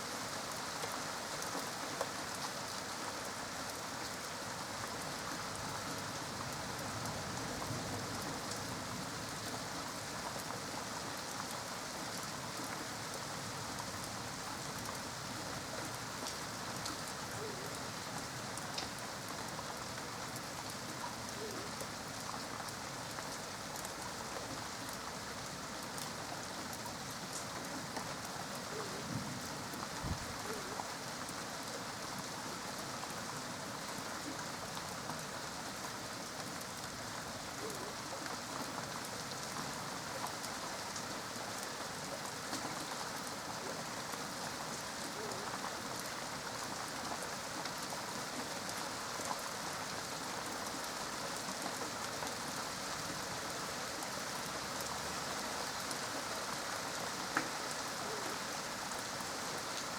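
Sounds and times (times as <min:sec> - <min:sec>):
steady rain falling: 0:00.0 - 0:59.9
rain drops ticking: 0:00.1 - 0:59.9.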